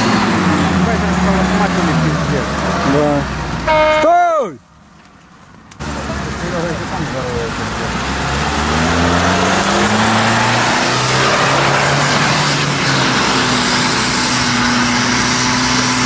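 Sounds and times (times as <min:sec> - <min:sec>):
off-road engine revving: 0:00.0 - 0:04.0, 0:05.8 - 0:16.0.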